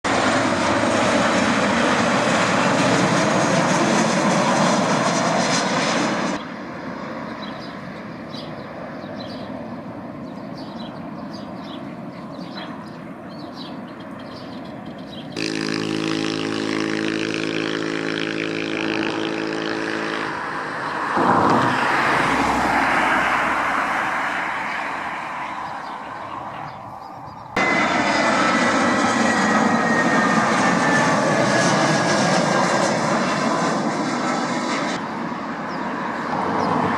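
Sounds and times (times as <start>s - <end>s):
small airplane engines: 0.0s - 36.9s
steady hum of engine tones: 0.1s - 36.9s.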